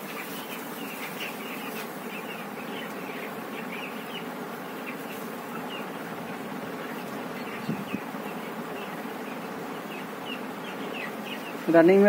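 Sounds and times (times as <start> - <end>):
chicks cheeping: 0.0 - 12.0
fan humming: 0.0 - 12.0.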